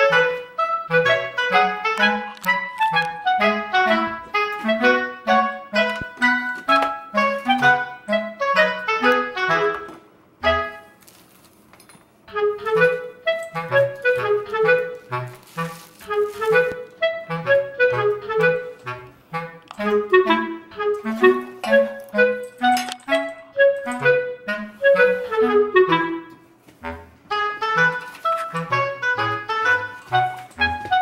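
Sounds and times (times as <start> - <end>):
bouncy woodwind melody: 0.0 - 11.0, 12.3 - 31.0.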